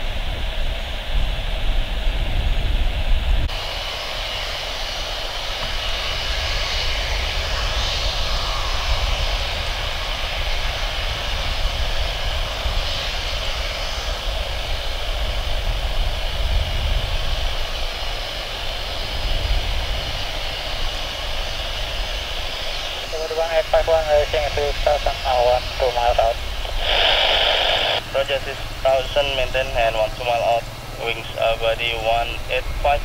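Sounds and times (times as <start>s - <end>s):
high jet engine whine: 0.0s - 33.0s
jet engine rumble: 0.0s - 33.0s.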